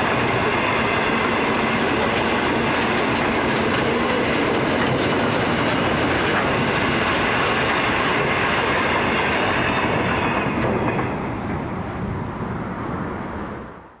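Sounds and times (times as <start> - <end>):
freight train rumble and wheel clatter: 0.0 - 14.0.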